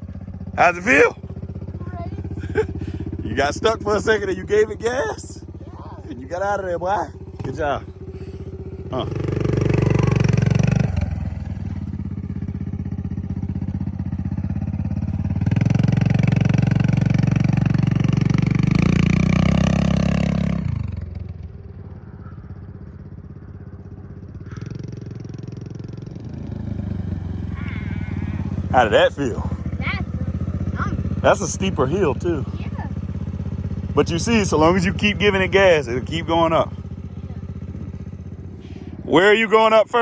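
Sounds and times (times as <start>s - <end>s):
dirt bike engine pulling uphill: 0.0s - 40.0s.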